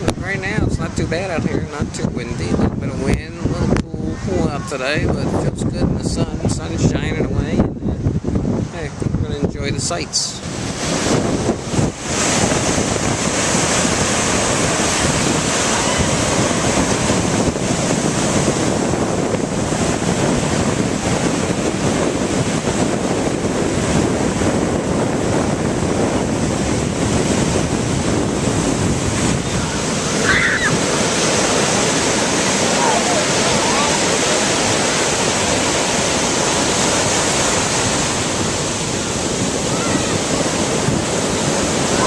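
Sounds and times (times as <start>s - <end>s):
ocean surf washing ashore: 0.0s - 42.0s
wind on microphone: 0.0s - 42.0s.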